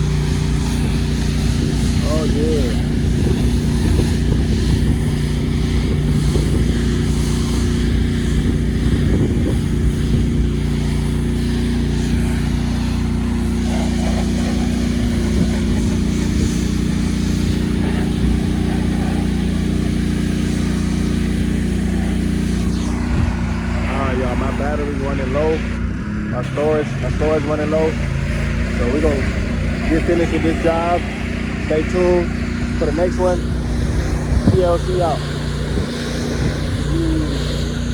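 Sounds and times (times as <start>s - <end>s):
pressure washer engine droning: 0.0s - 37.9s.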